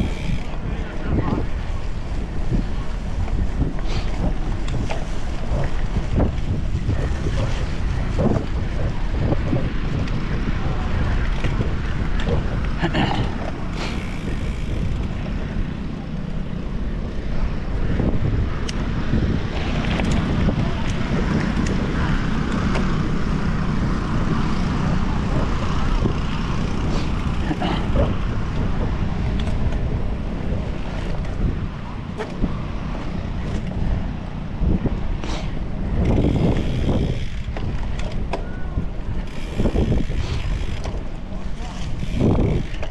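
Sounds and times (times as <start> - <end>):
bike clicks and rattles: 0.0 - 42.9
bike tyres rumbling on dirt: 0.0 - 42.9
wind rushing over microphone: 0.0 - 42.9.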